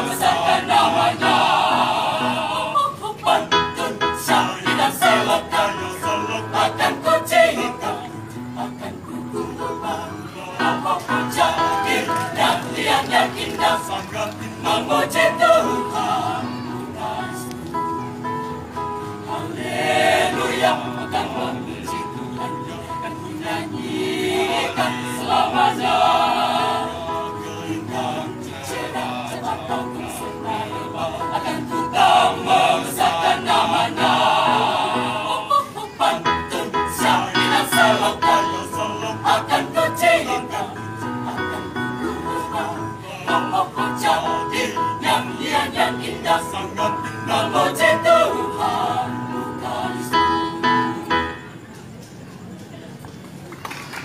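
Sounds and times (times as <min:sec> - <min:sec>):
mixed choir singing: 0:00.0 - 0:51.7.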